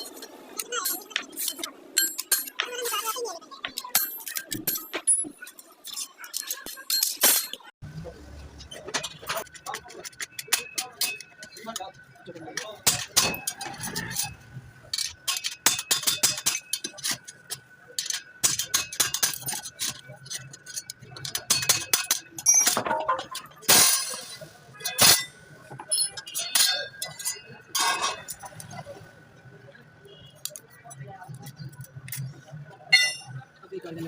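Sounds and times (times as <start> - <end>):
metal tools clinking: 0.0 - 7.7, 8.6 - 28.8, 30.2 - 33.4.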